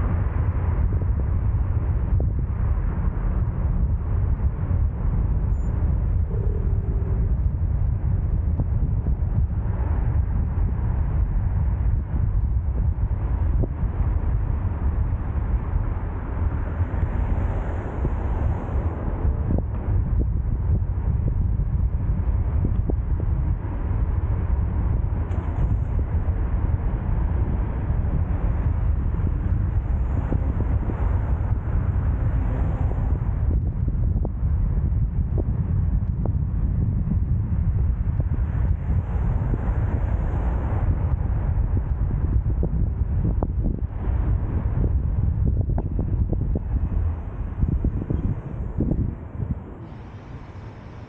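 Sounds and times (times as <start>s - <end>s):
road traffic rumble: 0.0s - 51.0s
vehicle noise: 0.0s - 51.0s
wind buffeting microphone: 0.0s - 51.0s.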